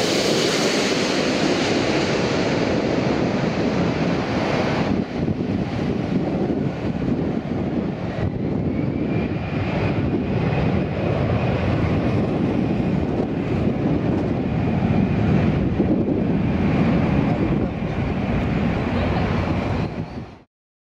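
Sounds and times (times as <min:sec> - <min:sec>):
jet engine rumble with whine: 0:00.0 - 0:20.5.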